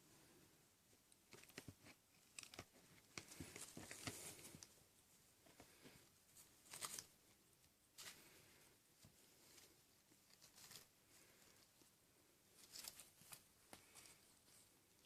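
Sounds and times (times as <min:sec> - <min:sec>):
kittens scampering and scratching: 0:01.0 - 0:15.0.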